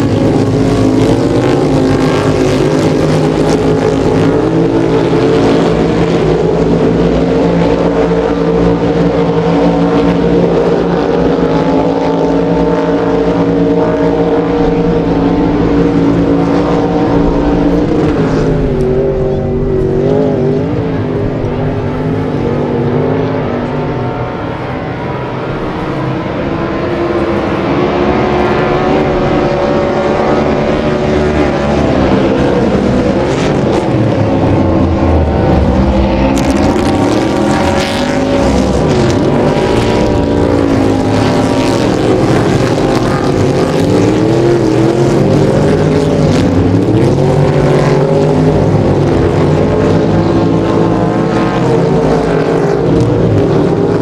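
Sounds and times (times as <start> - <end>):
race boat engines running hard: 0.0 - 54.0.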